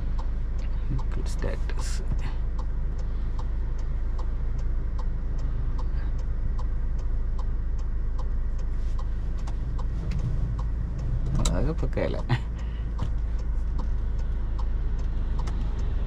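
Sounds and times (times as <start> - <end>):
car engine hum: 0.0 - 16.0
car indicator ticking: 0.0 - 16.0
road noise: 0.0 - 16.0.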